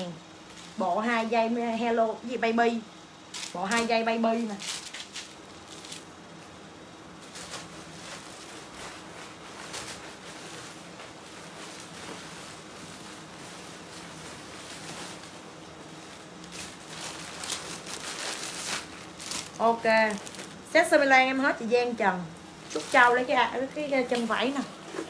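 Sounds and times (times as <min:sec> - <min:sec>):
faint steady hum: 0:00.0 - 0:25.0
clothes in plastic bags crinkling: 0:03.3 - 0:21.5, 0:22.6 - 0:24.7.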